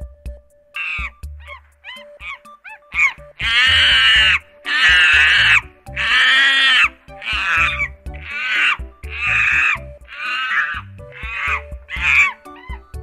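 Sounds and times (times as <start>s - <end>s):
background music: 0.0s - 13.0s
high-pitched animal calls: 0.8s - 13.0s.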